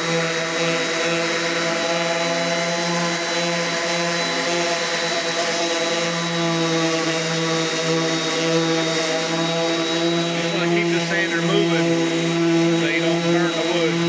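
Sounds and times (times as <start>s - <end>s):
orbital sander hum and whine: 0.0s - 14.0s
sandpaper hissing on wood: 0.0s - 14.0s.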